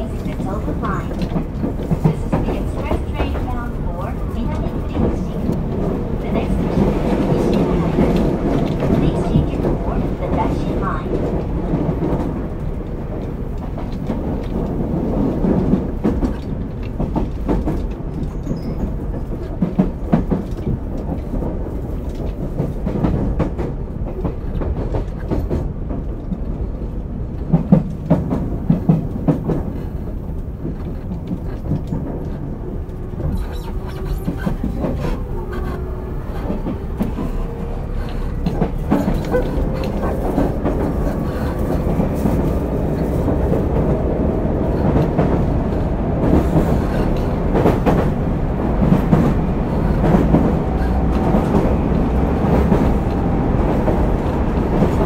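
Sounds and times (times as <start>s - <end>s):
clicks over rail joints: 0.0s - 55.0s
wheels rumbling on rail: 0.0s - 55.0s.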